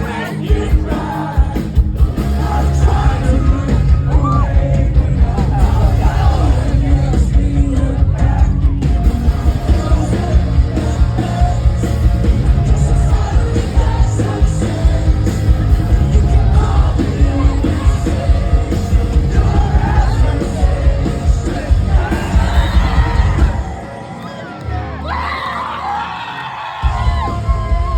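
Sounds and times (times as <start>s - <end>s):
person singing: 0.0s - 23.7s
live rock band playing: 0.0s - 25.0s, 26.8s - 27.9s.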